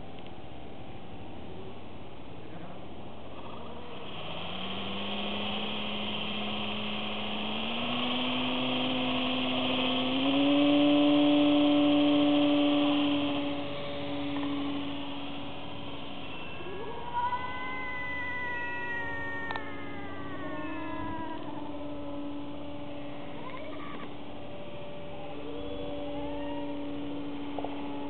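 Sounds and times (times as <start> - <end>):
model plane motor humming: 3.2 - 28.0.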